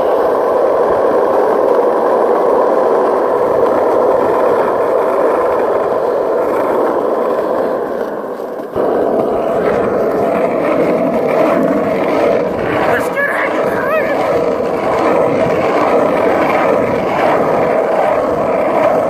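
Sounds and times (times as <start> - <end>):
wheels rolling on asphalt: 0.0 - 19.0
wind buffeting microphone: 0.0 - 19.0.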